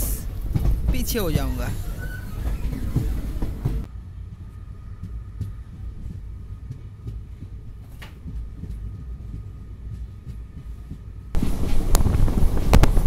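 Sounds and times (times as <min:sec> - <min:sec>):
train coach rumble: 0:00.0 - 0:13.0.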